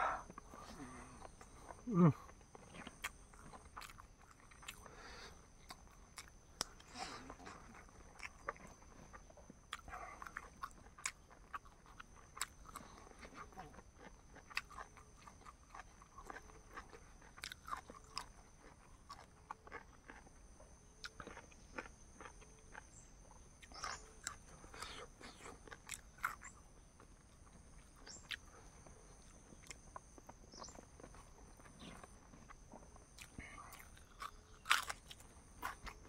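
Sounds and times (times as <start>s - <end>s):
crunching while eating: 0.0s - 36.0s
person chewing: 0.1s - 36.0s.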